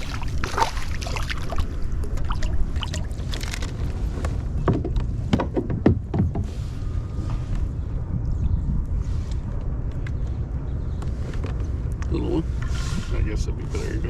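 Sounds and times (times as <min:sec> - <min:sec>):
steady low rumble: 0:00.0 - 0:05.3, 0:06.5 - 0:14.0.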